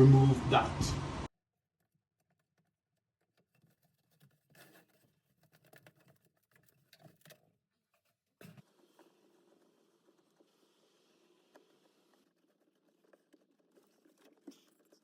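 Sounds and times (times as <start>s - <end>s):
faint clicks and rustles: 1.8s - 15.0s.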